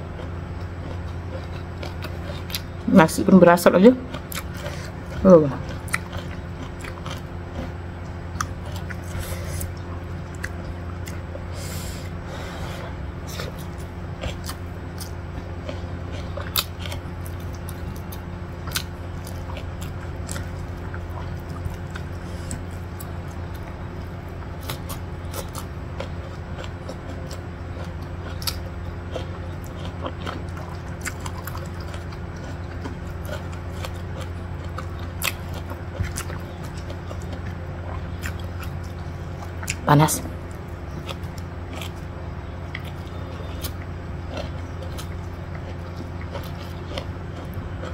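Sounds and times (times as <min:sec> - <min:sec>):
person chewing food: 0:00.0 - 0:02.9, 0:04.0 - 0:47.9
steady low hum: 0:00.0 - 0:47.9.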